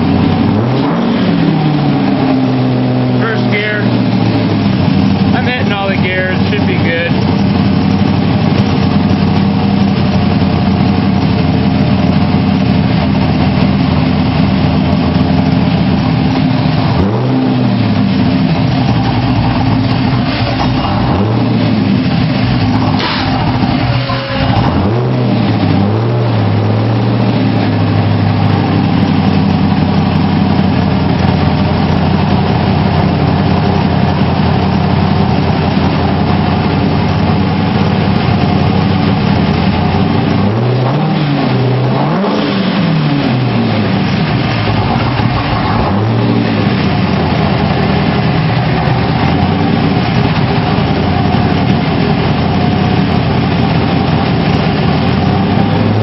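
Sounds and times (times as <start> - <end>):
car engine running loud: 0.0 - 56.0.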